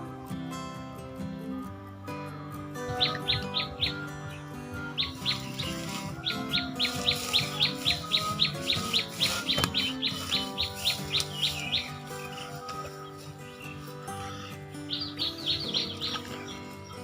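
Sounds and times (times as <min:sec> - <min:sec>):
background music: 0:00.0 - 0:17.0
bird chirping: 0:02.8 - 0:17.0.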